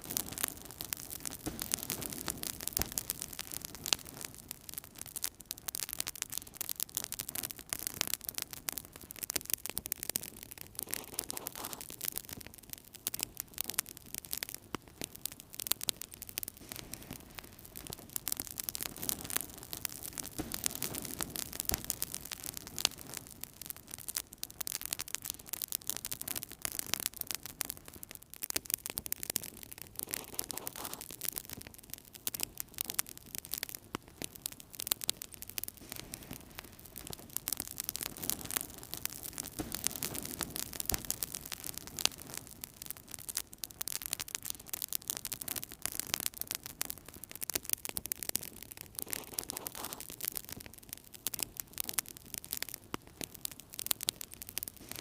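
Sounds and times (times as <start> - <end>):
fire crackling in a fireplace: 0.0 - 55.0.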